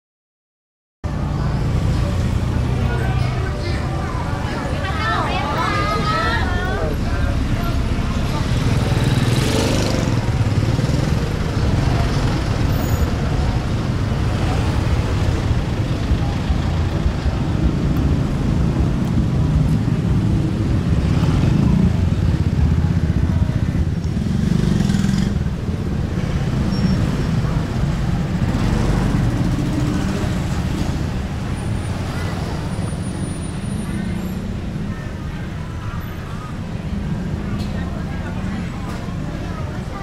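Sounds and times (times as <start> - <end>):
cars passing: 1.1 - 40.0
motor scooters passing: 1.3 - 40.0.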